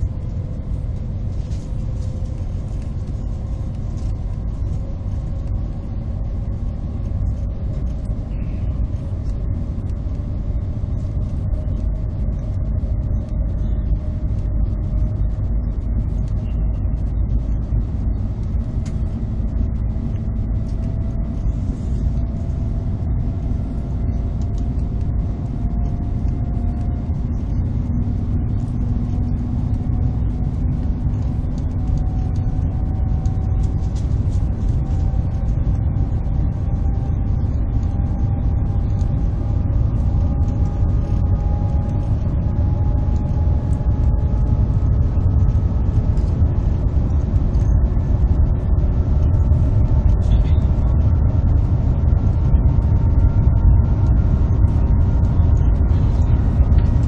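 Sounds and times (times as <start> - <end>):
faint rising whine: 0.0 - 57.0
train cabin low rumble: 0.0 - 57.0.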